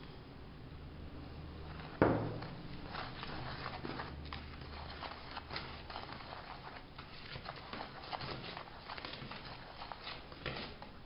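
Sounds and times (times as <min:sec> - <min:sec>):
whisk stirring flour in bowl: 0:01.6 - 0:11.0.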